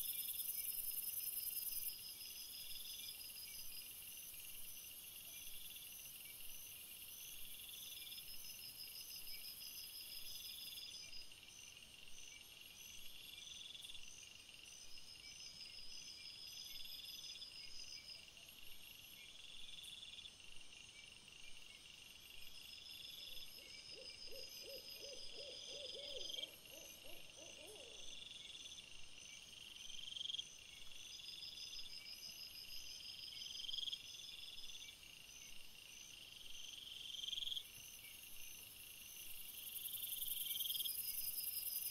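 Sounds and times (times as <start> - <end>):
crickets chirping: 0.0 - 41.9
rapid lower pulsed insect calls: 0.0 - 41.9.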